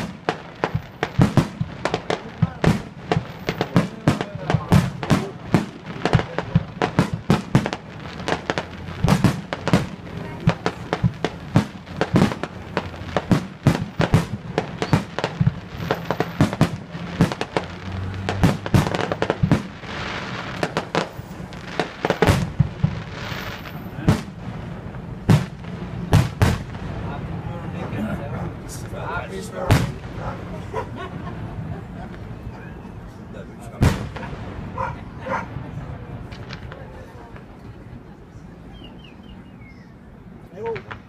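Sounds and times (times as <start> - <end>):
fireworks bursting: 0.0 - 32.8, 33.6 - 37.7.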